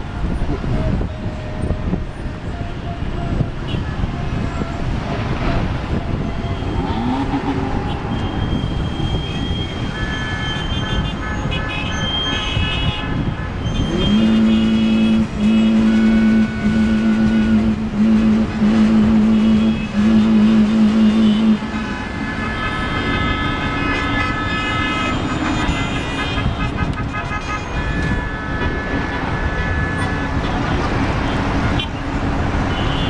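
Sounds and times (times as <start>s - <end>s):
street traffic: 0.0s - 33.0s
car horns honking: 3.6s - 33.0s
loud low-pitched horn blasts: 3.6s - 33.0s.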